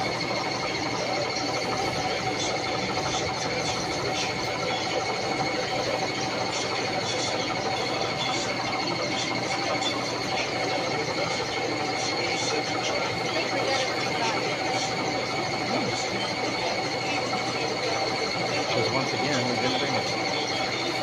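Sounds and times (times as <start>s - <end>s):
coconut grater motor whine: 0.0s - 21.0s.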